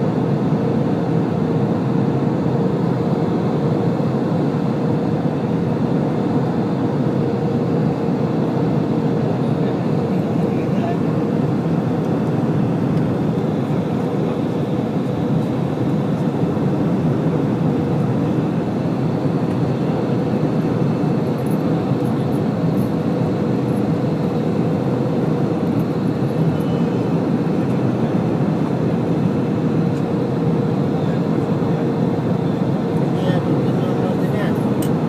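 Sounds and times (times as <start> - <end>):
airliner cabin engine and airflow noise: 0.0 - 35.0
constant hum: 0.0 - 35.0.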